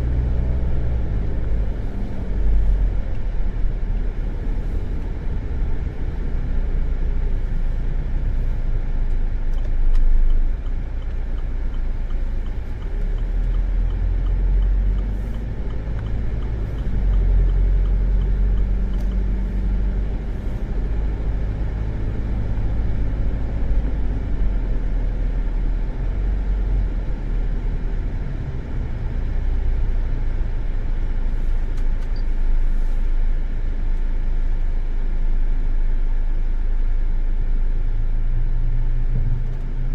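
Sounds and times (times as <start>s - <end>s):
car engine from inside cabin: 0.0s - 39.9s
road noise: 0.0s - 39.9s.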